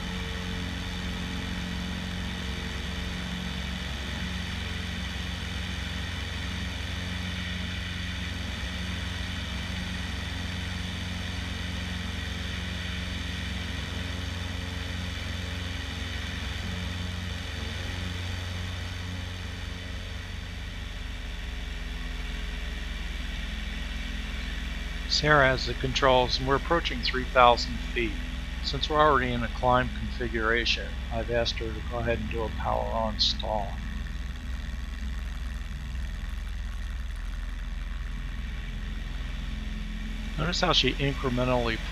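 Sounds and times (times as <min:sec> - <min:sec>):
propeller plane engine: 0:00.0 - 0:41.9.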